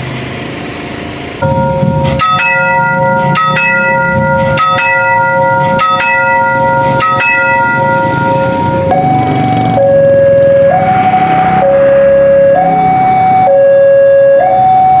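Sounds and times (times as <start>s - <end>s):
level crossing warning bell: 1.4s - 15.0s
two-tone alternating alarm: 1.4s - 15.0s.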